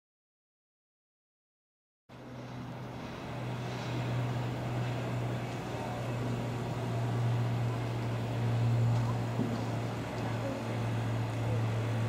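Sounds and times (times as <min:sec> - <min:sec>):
diesel locomotive engine drone: 0:02.1 - 0:12.0.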